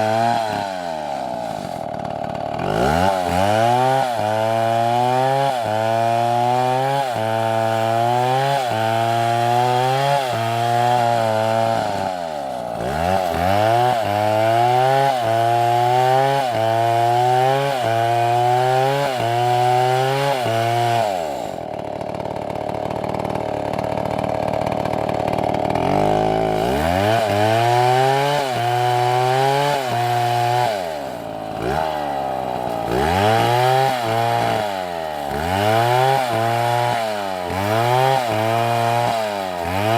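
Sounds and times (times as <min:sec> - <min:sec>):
chainsaw engine running hard: 0:00.0 - 0:39.9.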